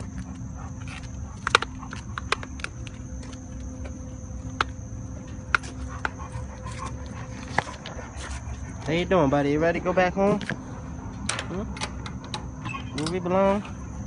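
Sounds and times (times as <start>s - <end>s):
steady high-pitched hum: 0.0s - 14.0s.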